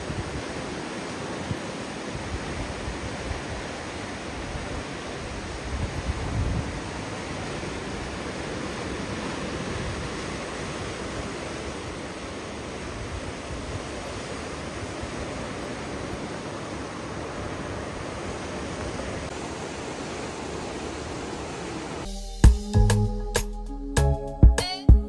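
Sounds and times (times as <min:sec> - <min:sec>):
ocean surf rushing: 0:00.0 - 0:22.2.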